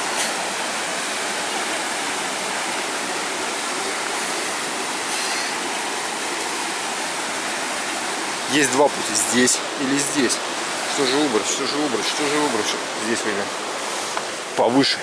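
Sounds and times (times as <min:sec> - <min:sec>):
water splashing over boulders: 0:00.0 - 0:15.0
waterfall rushing: 0:00.0 - 0:15.0.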